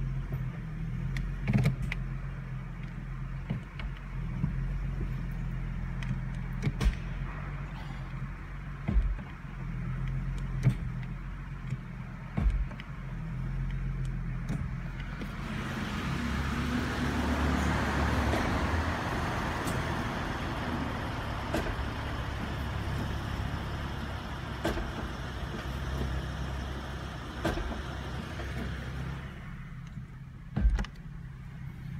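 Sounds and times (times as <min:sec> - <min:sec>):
car engine idling: 0:00.0 - 0:31.9
transmission clunking: 0:00.0 - 0:31.9.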